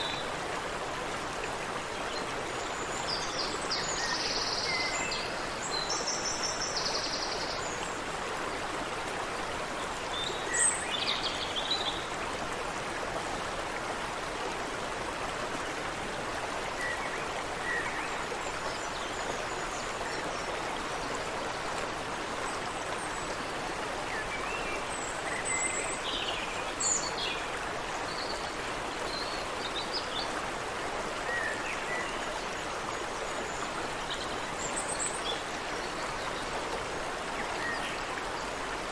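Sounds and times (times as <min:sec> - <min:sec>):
creek water running: 0:00.0 - 0:38.9.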